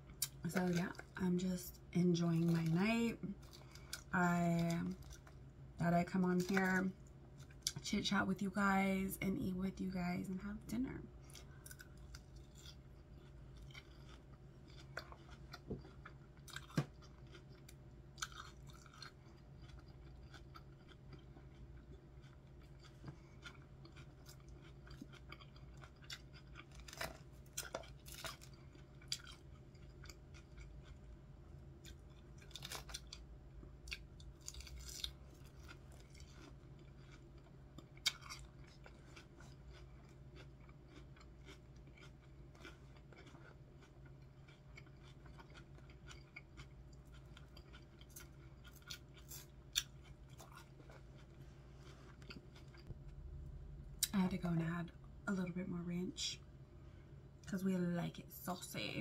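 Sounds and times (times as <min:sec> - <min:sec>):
person chewing with crunches: 0:00.0 - 0:07.8, 0:11.1 - 0:54.2
steady low hum: 0:00.0 - 0:59.0.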